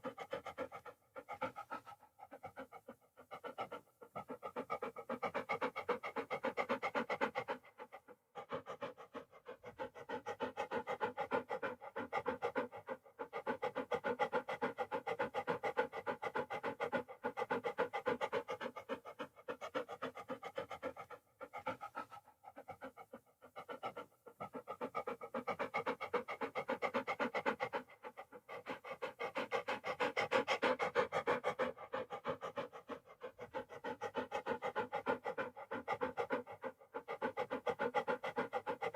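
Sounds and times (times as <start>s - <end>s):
dog panting: 0.0s - 38.9s.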